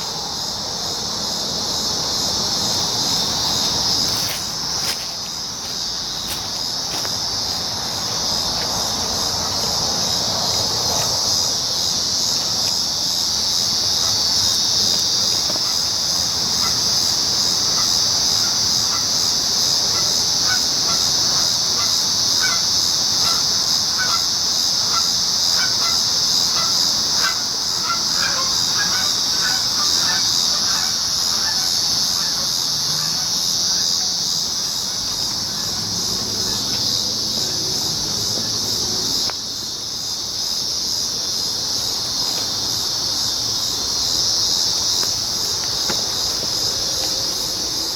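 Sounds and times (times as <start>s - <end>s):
cicadas droning: 0.0s - 47.9s.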